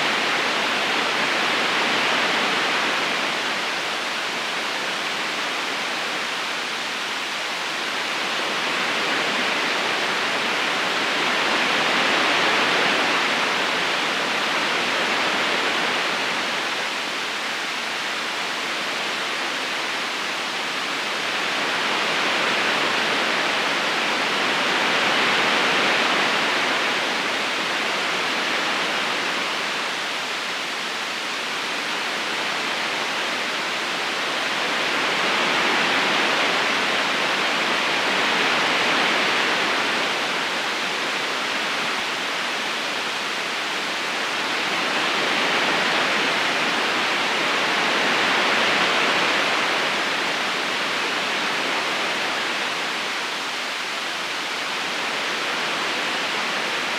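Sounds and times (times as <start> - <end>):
river water rushing over stones: 0.0 - 56.9.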